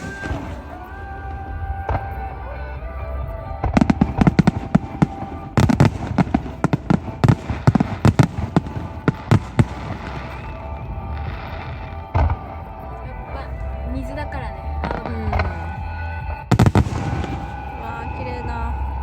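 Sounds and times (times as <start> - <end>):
firework bursts: 0.0 - 2.6, 3.6 - 18.9
music playing: 0.0 - 19.0.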